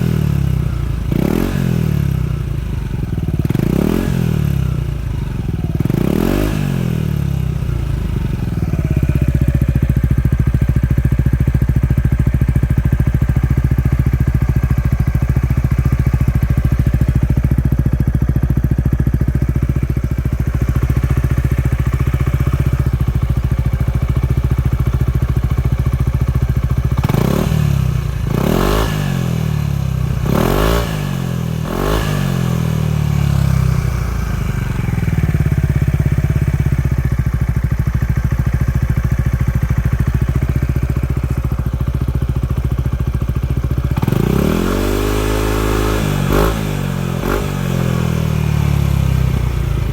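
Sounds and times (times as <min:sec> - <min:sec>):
scooter engine idling and revving: 0:00.0 - 0:49.9.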